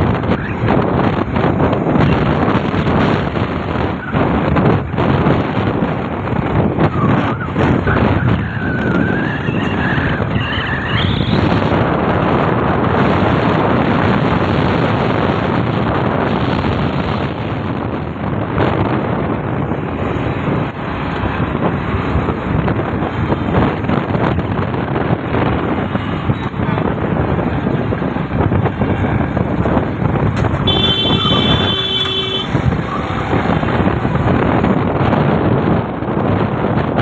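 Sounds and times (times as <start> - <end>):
road and traffic noise: 0.0 - 37.0
wind on microphone: 0.0 - 37.0.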